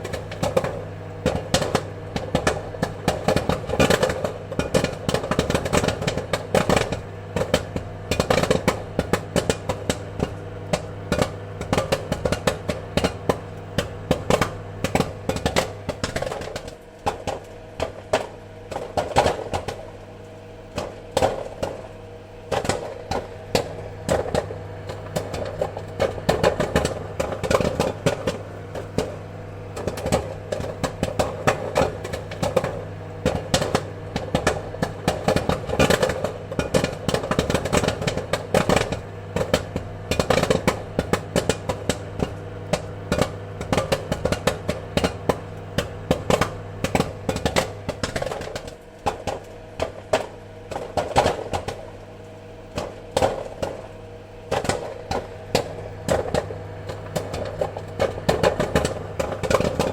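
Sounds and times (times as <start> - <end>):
popcorn popping: 0.0 - 59.9.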